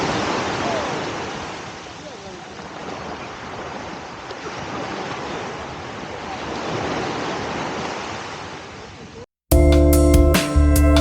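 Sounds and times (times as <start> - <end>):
sea waves washing in: 0.0 - 9.1.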